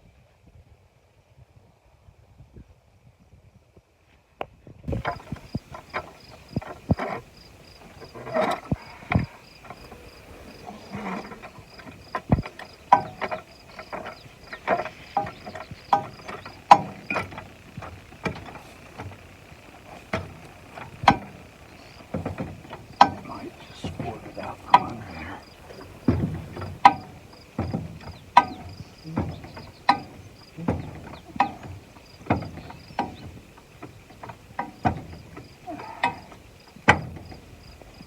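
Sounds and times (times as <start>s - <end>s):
knocks and clatters: 4.9s - 35.5s.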